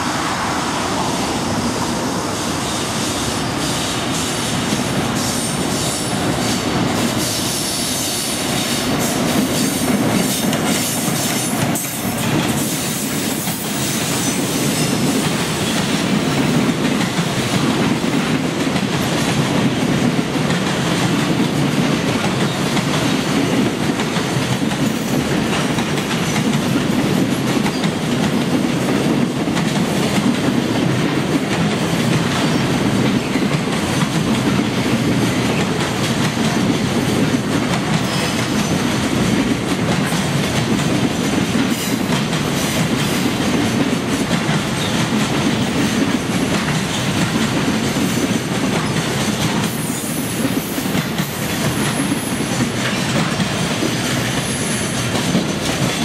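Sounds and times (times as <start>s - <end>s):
train wheels rumbling on rails: 0.0s - 56.0s
clickety-clack over rail joints: 3.6s - 56.0s.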